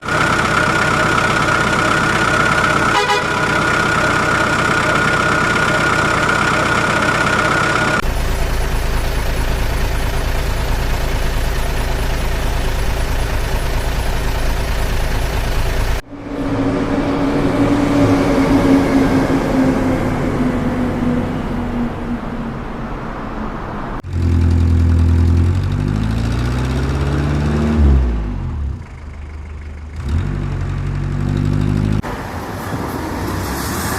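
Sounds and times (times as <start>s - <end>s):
engine revving: 0.0s - 22.3s, 24.0s - 33.9s
truck engine running: 0.0s - 23.3s, 23.9s - 33.9s.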